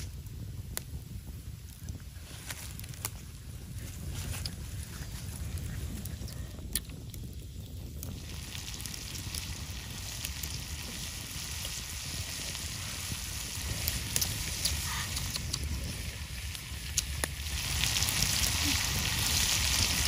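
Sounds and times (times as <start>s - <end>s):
oil sizzling and crackling: 0.0s - 20.0s.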